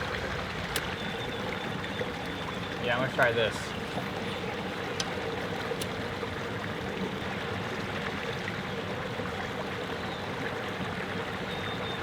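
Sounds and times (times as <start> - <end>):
water spilling over waterfall: 0.0 - 12.0.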